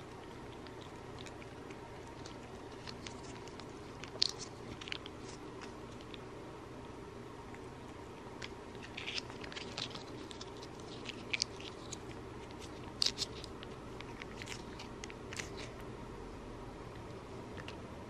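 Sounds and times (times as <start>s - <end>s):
cat licking and smacking lips: 0.0s - 6.3s, 7.4s - 15.9s.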